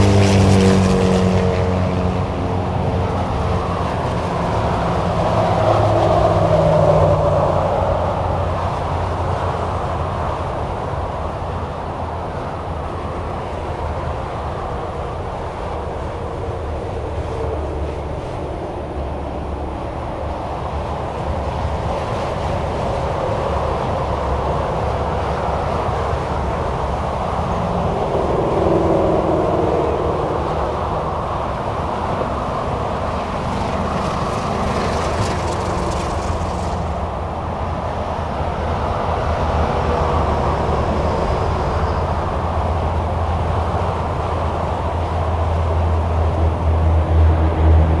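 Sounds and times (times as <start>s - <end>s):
highway traffic passing: 0.0s - 48.0s
low engine rumble: 0.0s - 48.0s.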